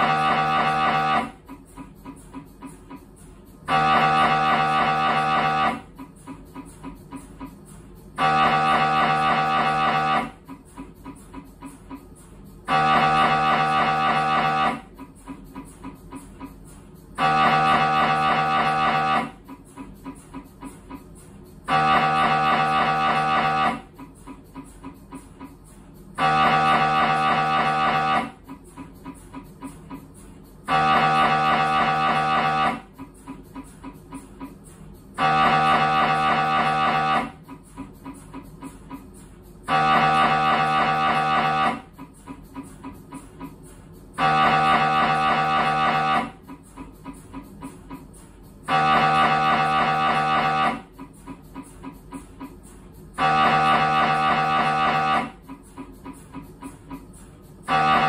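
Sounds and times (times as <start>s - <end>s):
mri scanner loud buzzing tones: 0.0s - 58.0s
rapid ticking: 0.0s - 58.0s
rhythmic knocking: 0.0s - 58.0s.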